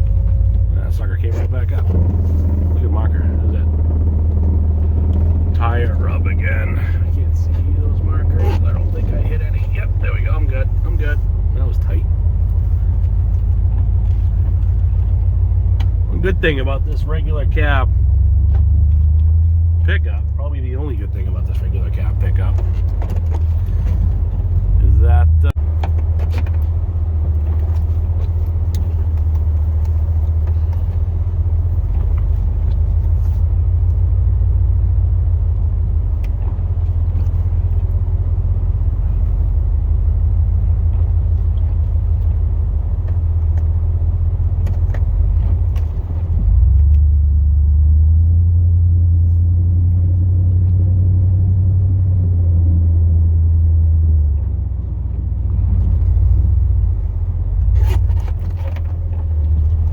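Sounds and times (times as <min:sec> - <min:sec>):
truck engine rumble: 0:00.0 - 0:59.9.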